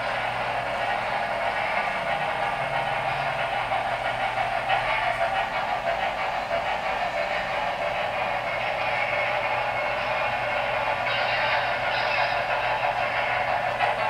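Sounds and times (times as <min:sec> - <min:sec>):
model cars rolling on track: 0:00.0 - 0:14.0
model steam locomotive sounds: 0:00.0 - 0:14.0.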